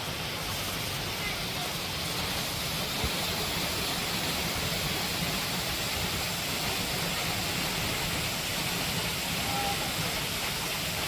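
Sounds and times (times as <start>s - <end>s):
stream flowing over stones: 0.0s - 11.0s.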